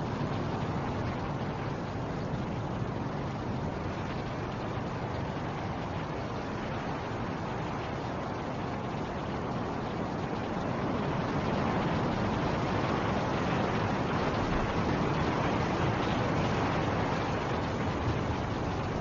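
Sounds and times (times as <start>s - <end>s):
snowstorm wind roaring: 0.0s - 19.0s.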